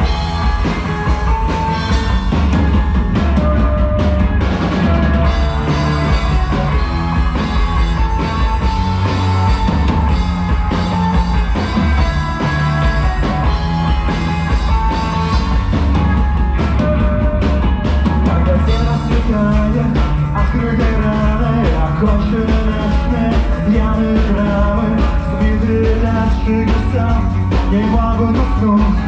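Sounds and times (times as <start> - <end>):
bass line: 0.0 - 29.0
drum kit: 0.0 - 29.0.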